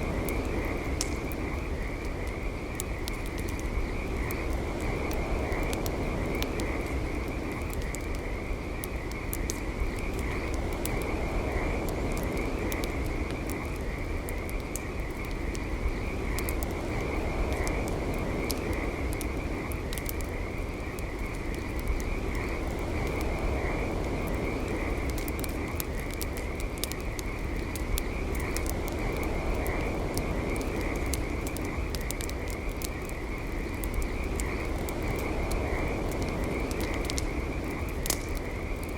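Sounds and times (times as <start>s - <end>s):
campfire crackling: 0.0s - 38.9s
pulsing night insect chorus: 0.0s - 38.9s.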